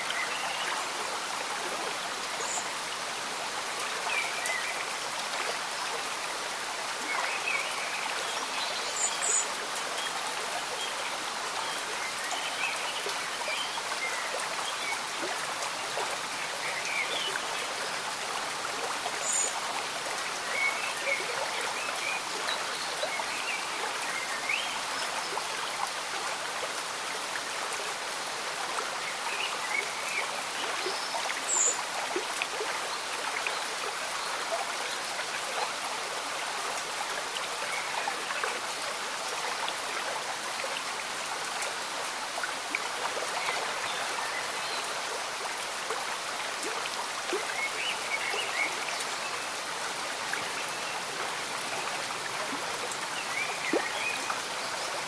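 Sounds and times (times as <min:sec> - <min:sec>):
light rain falling: 0:00.0 - 0:55.0
stream bubbling and trickling: 0:00.0 - 0:55.0.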